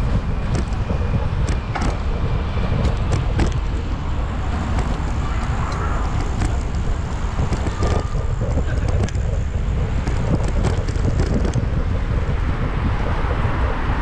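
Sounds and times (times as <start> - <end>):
sharp clicks and rattles: 0.0 - 14.0
wind buffeting microphone: 0.0 - 14.0.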